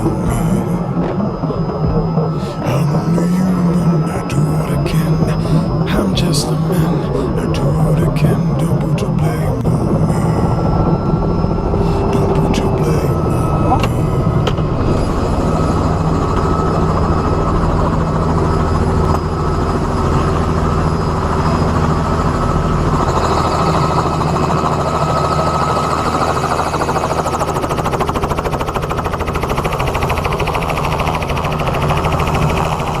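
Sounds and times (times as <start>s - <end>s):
aircraft engine running: 0.0s - 33.0s.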